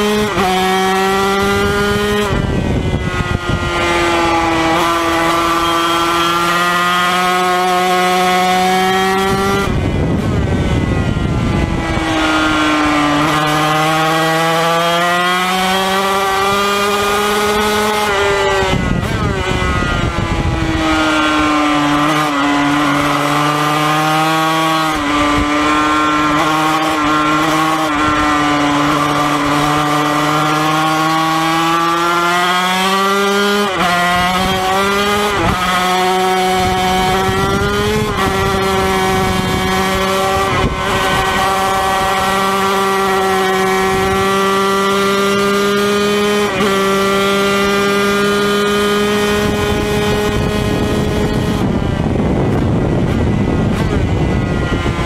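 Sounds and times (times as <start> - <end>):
racing engine at high revs: 0.0 - 55.0.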